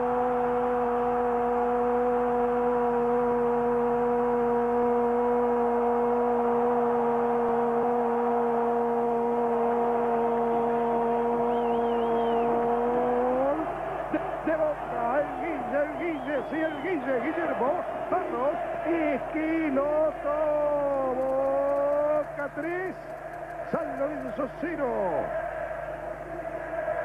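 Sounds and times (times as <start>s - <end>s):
stadium crowd noise: 0.0s - 27.0s.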